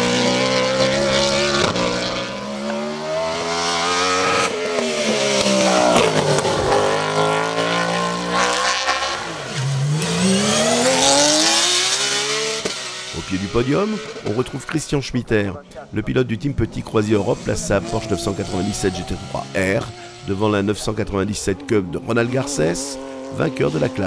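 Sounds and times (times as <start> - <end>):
race car engine accelerating: 0.0 - 14.9, 16.4 - 24.0
race car pulling away: 0.0 - 14.9, 15.8 - 24.0.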